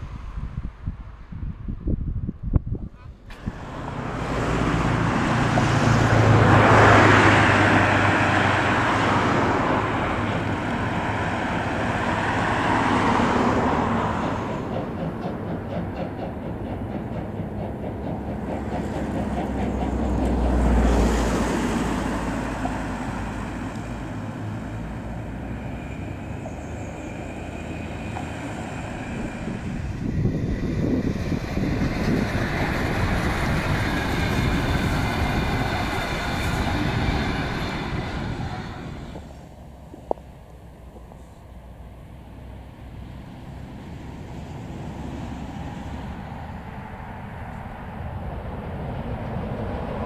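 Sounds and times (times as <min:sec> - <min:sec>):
steam locomotive passing: 0:00.0 - 0:01.3, 0:02.7 - 0:50.0.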